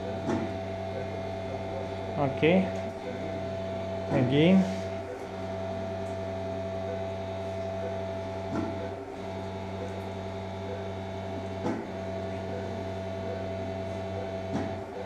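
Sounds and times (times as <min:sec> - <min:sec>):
electrical equipment hum: 0:00.0 - 0:15.0.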